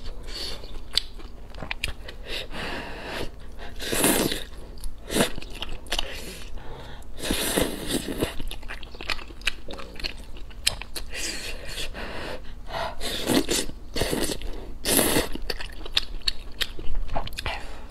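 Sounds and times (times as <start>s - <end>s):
wet chewing: 0.0s - 2.3s, 3.4s - 11.4s, 13.5s - 17.6s.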